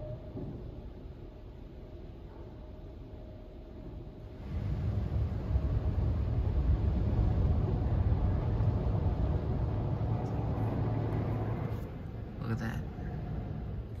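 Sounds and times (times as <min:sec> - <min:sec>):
car wash rumble: 0:00.0 - 0:14.0.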